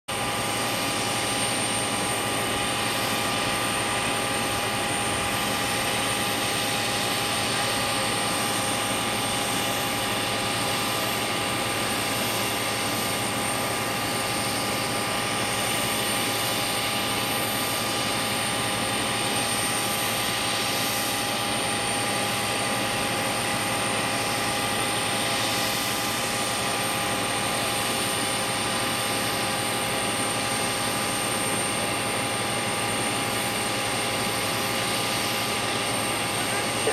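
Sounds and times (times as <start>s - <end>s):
constant rushing noise: 0.1s - 36.9s
turbine whine: 0.1s - 36.9s.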